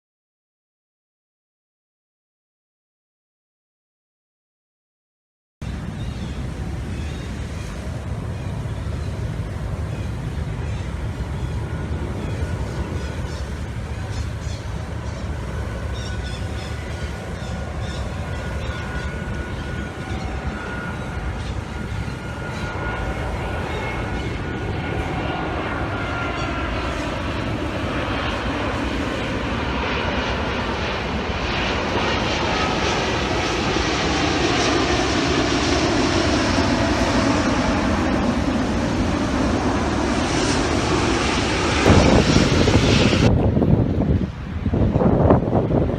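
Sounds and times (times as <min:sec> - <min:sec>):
engine drone: 0:05.6 - 0:45.9.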